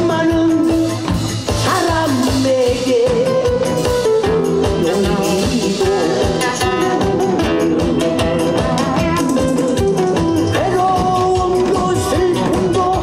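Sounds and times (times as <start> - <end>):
drums and cymbals: 0.0 - 13.0
pop song over loudspeakers: 0.0 - 13.0.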